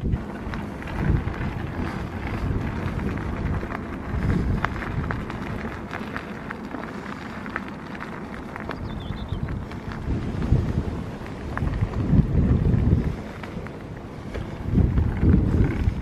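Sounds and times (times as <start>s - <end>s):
bike tyres rolling on gravel: 0.0s - 16.0s
wind buffeting microphone: 0.0s - 16.0s.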